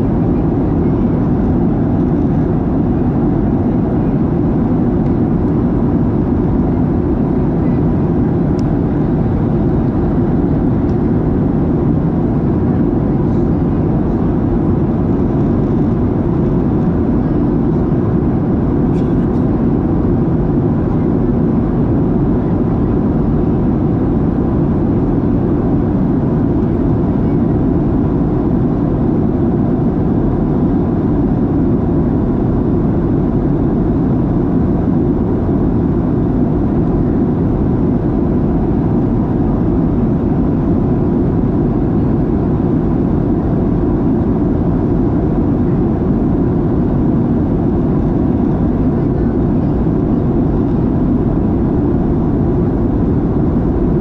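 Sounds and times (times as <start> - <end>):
aircraft cabin drone: 0.0 - 54.0.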